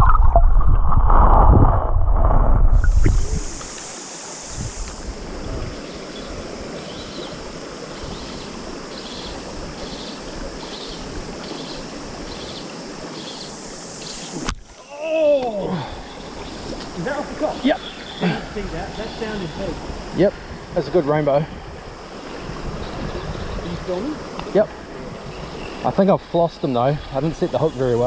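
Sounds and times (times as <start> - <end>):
cicadas pulsing: 2.6 - 28.0
river water running: 2.8 - 28.0.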